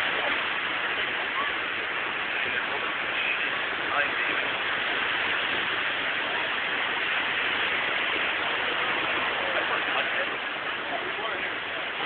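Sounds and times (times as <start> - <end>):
surf washing on a beach: 0.0 - 12.0.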